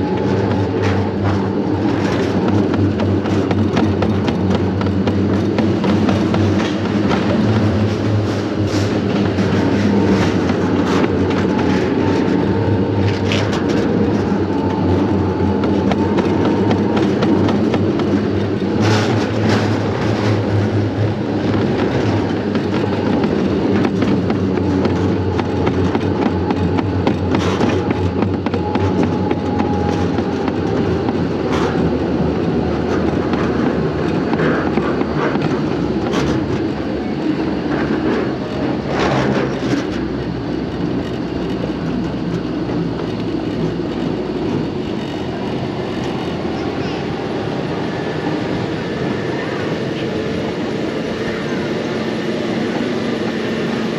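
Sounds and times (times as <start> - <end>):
sled wheels rumbling in metal trough: 0.0 - 53.9.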